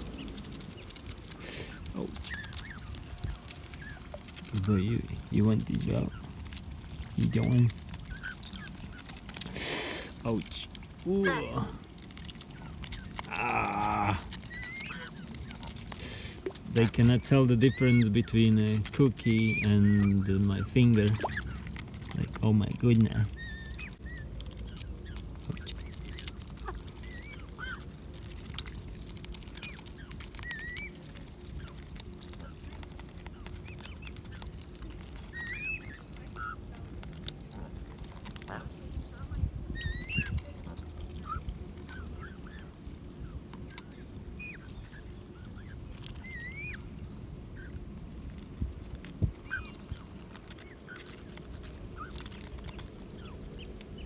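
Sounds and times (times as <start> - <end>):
small splashes: 0.0 - 47.0
low outdoor rumble: 0.0 - 54.0
geese squeaky calls: 0.1 - 10.2, 12.2 - 47.8, 49.4 - 54.0.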